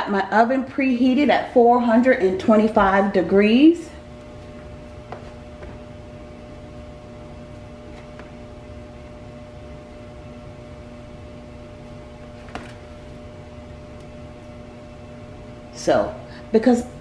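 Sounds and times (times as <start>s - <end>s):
appliance hum: 0.0s - 17.0s.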